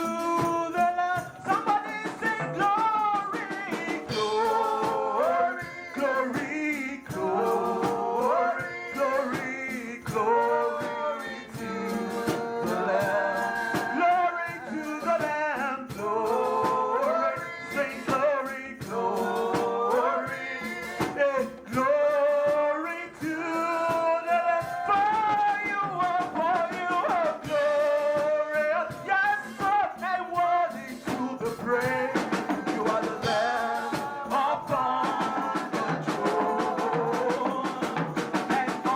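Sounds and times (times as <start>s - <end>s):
drum kit beat: 0.0s - 38.9s
people singing worship music: 0.0s - 38.9s.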